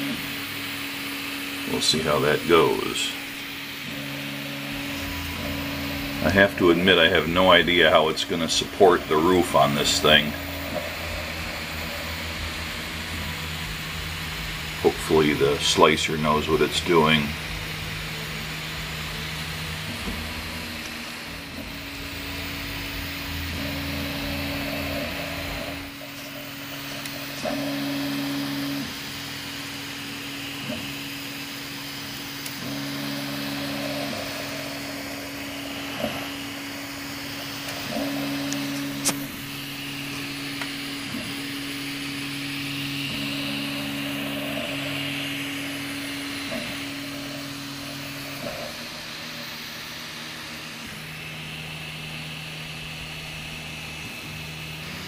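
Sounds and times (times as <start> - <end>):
fan hiss: 0.0 - 55.0
stepper motors humming: 0.0 - 55.0.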